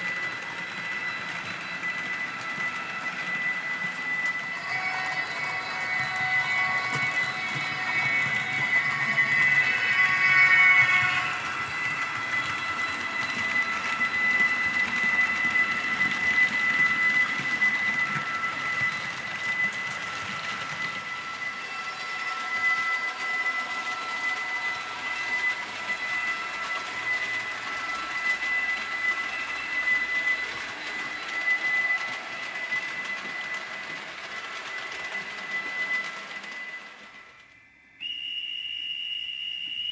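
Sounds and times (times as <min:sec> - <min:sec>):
model train wheels clattering: 0:00.0 - 0:38.2
steady high whine: 0:00.0 - 0:39.0.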